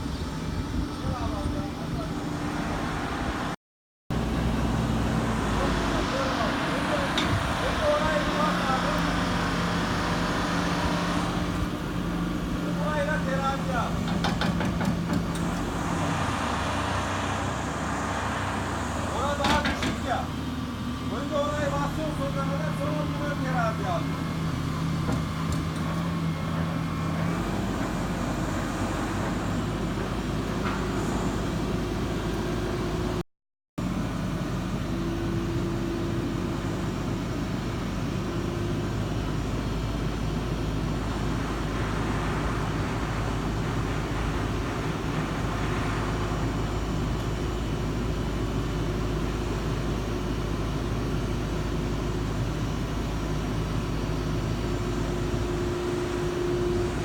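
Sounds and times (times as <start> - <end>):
diesel engine running: 0.0 - 33.2, 33.8 - 57.0.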